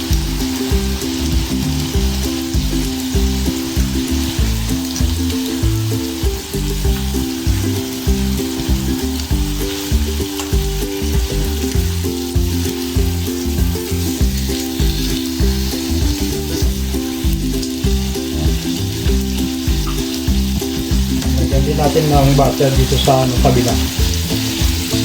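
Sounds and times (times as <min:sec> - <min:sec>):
background music with bass line: 0:00.0 - 0:25.0
steak sizzling in a frying pan: 0:00.0 - 0:25.0.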